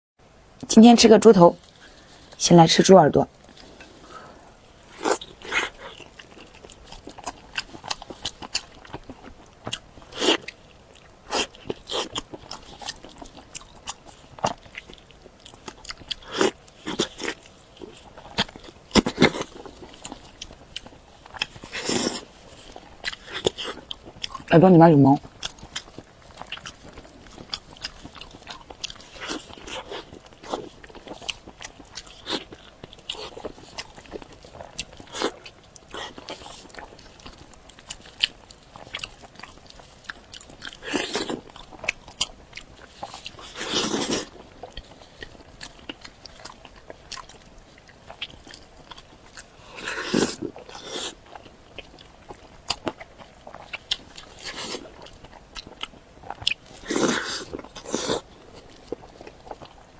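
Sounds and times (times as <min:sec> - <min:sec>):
chewing crunchy cartilage: 0:01.3 - 0:59.9.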